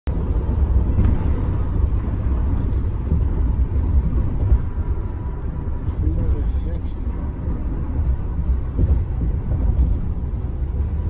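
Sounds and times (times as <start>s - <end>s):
tyre road noise inside car: 0.1s - 11.0s.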